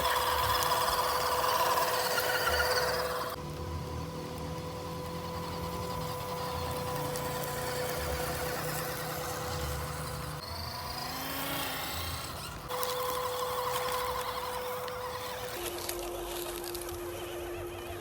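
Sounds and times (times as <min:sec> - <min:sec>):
electric motor whining: 0:00.0 - 0:17.5.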